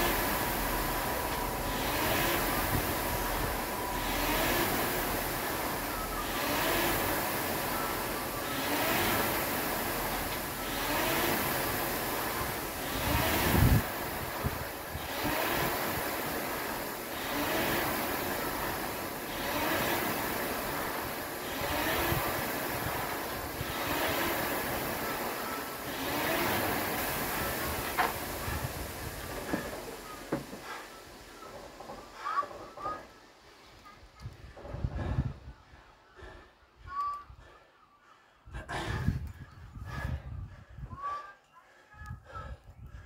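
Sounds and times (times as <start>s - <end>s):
rowing machine fan flywheel whooshing: 0.0s - 37.6s, 38.5s - 41.3s.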